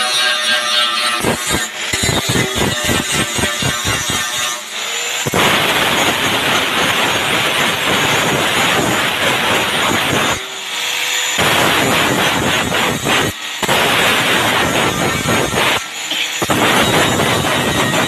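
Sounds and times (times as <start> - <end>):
angle grinder grinding steel: 0.0 - 18.0.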